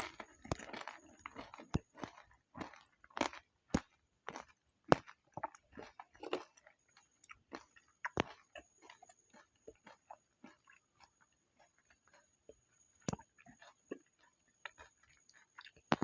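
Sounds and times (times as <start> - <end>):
wet chewing clicks: 0.0 - 16.0.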